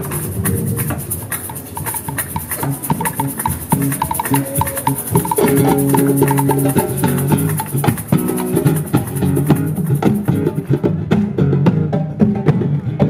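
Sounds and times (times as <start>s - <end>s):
shaker rhythm: 0.0s - 11.4s
acoustic guitar plucking melody: 0.0s - 11.6s.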